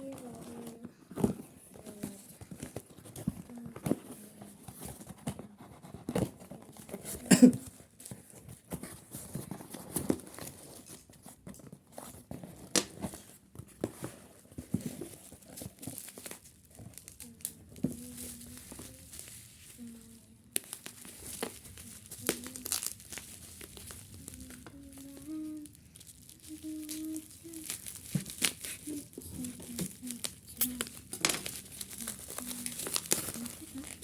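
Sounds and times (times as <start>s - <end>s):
plastic wrap tearing and crinkling: 0.0s - 5.2s, 6.2s - 34.0s.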